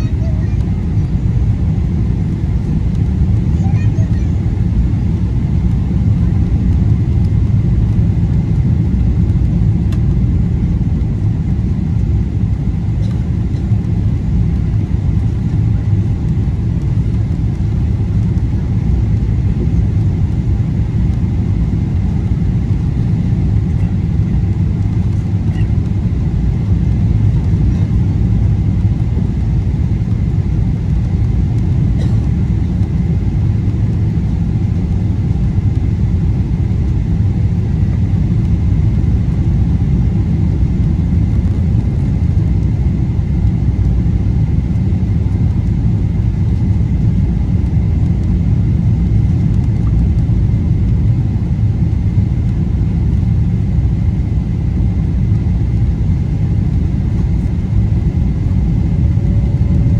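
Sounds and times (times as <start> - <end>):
engine and rushing air rumble: 0.0 - 59.9.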